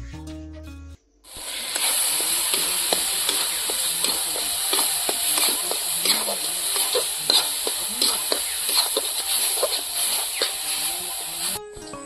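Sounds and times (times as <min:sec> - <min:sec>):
paste sizzling in hot oil: 0:01.3 - 0:11.6
metal spatula scraping pan: 0:01.4 - 0:11.6.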